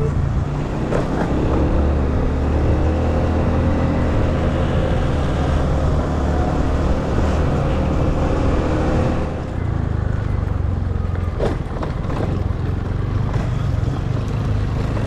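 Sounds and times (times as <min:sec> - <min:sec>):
road noise: 0:00.0 - 0:15.0
vehicle engine droning: 0:00.0 - 0:15.0.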